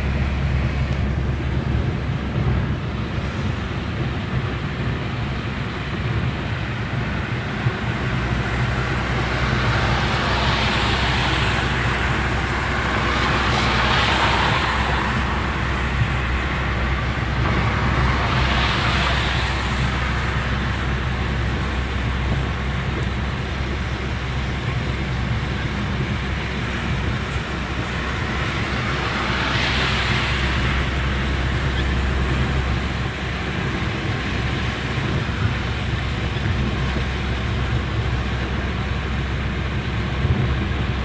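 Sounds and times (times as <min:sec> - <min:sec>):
car road and engine noise: 0:00.0 - 0:41.0
passing vehicles whooshing: 0:00.0 - 0:41.0.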